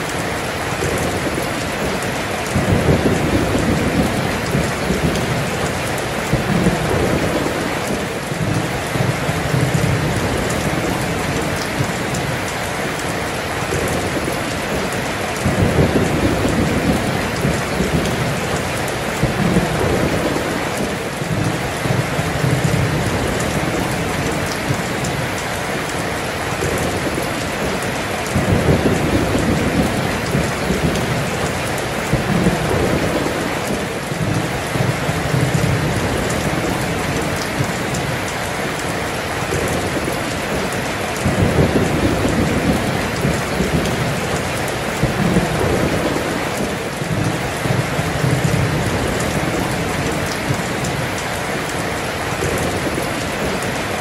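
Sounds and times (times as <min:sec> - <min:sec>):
heavy rain pouring: 0:00.0 - 0:54.0
rolling thunder: 0:00.8 - 0:12.4, 0:13.1 - 0:25.3, 0:26.5 - 0:38.3, 0:38.9 - 0:51.2.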